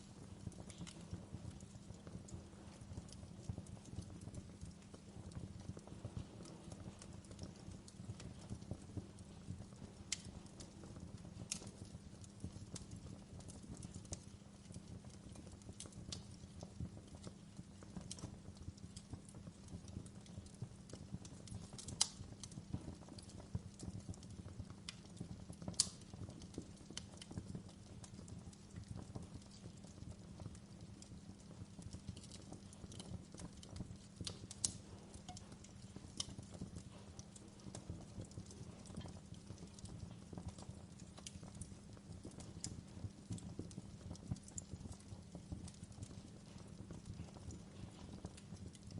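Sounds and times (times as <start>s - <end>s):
fire pops and snaps: 0.0s - 48.9s
wood fire crackling: 0.0s - 48.9s.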